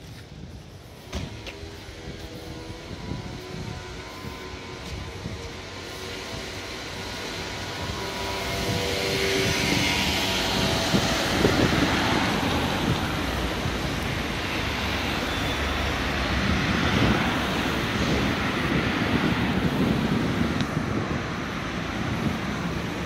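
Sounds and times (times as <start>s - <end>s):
cars driving past: 1.0s - 23.0s.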